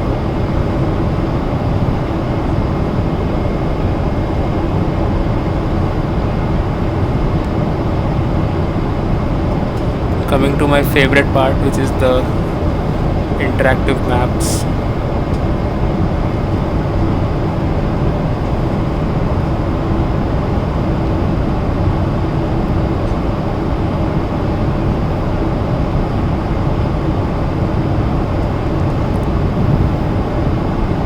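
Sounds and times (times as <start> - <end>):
aircraft cabin engine and airflow rush: 0.0 - 31.0
faint steady hum: 0.0 - 31.0.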